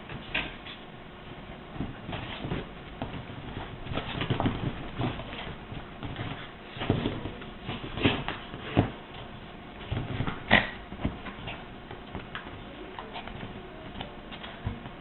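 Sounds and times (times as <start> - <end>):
scuffling and rustling: 0.0 - 15.0.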